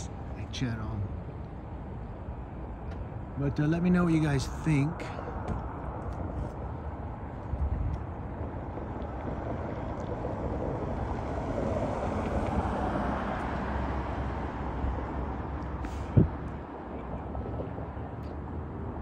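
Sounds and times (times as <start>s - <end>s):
road traffic noise: 0.0s - 19.0s
vehicle passing: 3.5s - 19.0s.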